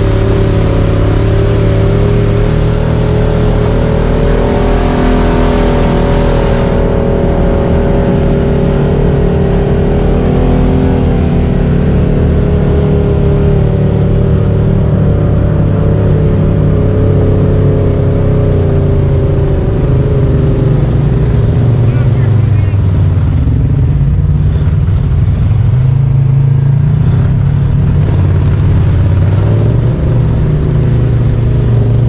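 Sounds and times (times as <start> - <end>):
tyre and trail noise: 0.0 - 32.0
vehicle engine running: 0.0 - 32.0.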